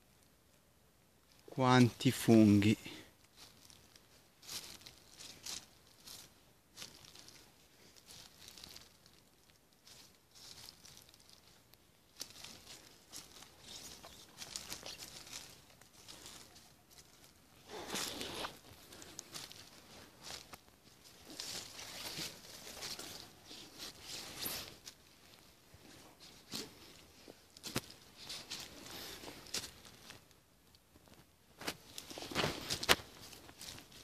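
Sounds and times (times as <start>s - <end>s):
footsteps through leaf litter: 3.3s - 30.3s, 31.6s - 34.0s.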